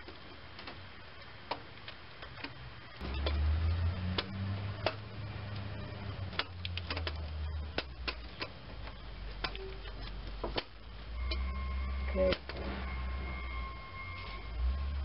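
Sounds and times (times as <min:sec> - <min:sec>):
low hum: 0:02.7 - 0:15.0.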